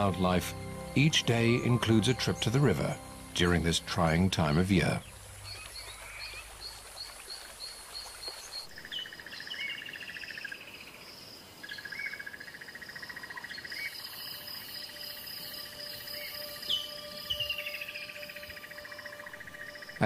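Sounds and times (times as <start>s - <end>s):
insect trills pulsing: 0.0s - 20.0s
insects chirping: 0.0s - 20.0s.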